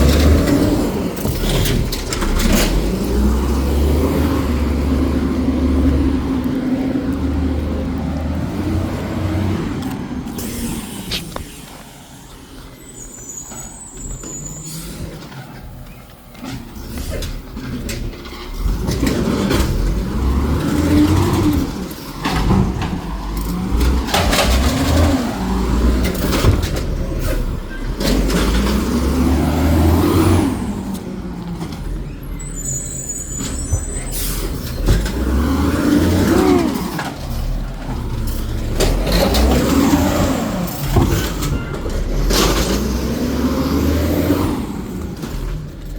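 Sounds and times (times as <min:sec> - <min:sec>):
garbage truck engine revving: 0:00.0 - 0:45.9.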